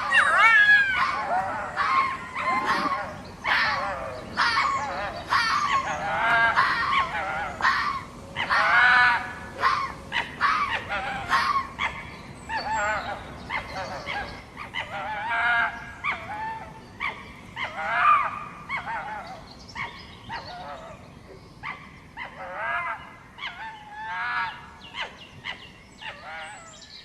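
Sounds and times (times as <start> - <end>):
fox yelping barks: 0.0 - 20.8, 21.6 - 26.7.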